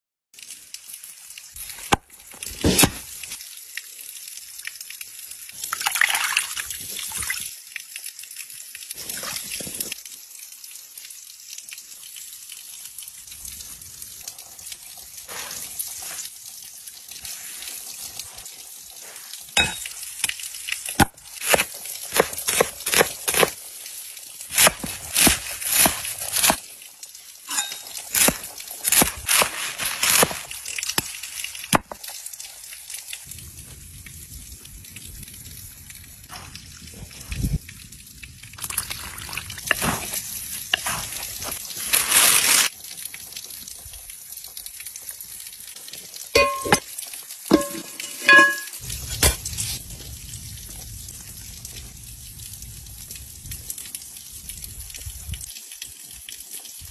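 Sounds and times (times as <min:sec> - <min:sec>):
stream trickling: 0:00.4 - 0:56.9.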